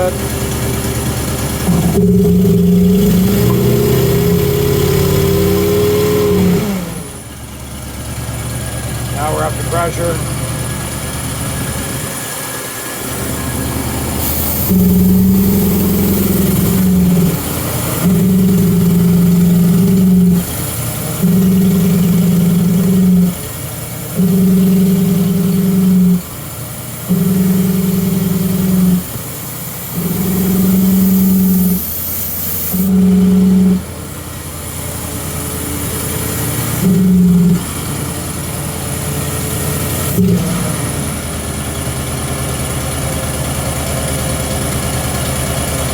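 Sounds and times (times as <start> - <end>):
engine surging: 0.0 - 45.9.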